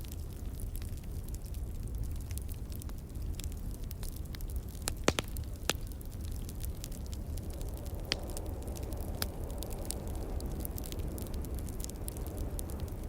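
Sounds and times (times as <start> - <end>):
fire popping: 0.0 - 13.0
low fire rumble: 0.0 - 13.0
wood fire crackling: 0.0 - 13.0.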